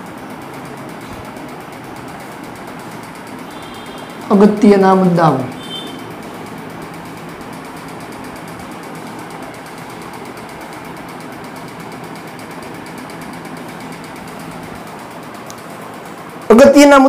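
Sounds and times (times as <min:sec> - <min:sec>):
motor whirring with low hum: 0:00.0 - 0:16.9.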